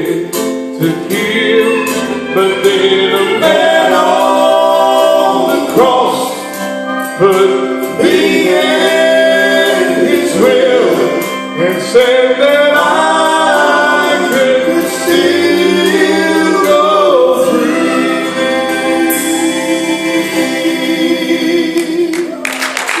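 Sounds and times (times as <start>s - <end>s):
man singing lead: 0.0s - 22.4s
gospel group singing: 0.0s - 23.0s.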